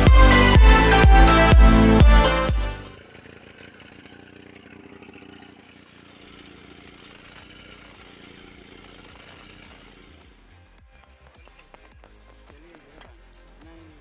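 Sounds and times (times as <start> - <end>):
disc saw cutting steel: 0.0 - 13.1.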